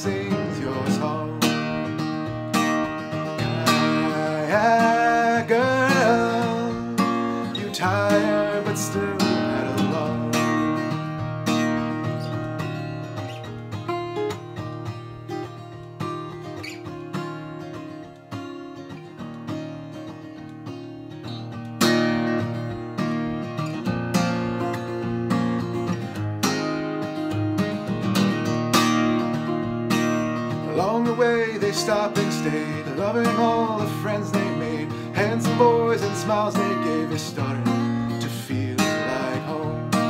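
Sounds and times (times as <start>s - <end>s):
acoustic guitar playing: 0.0s - 40.0s.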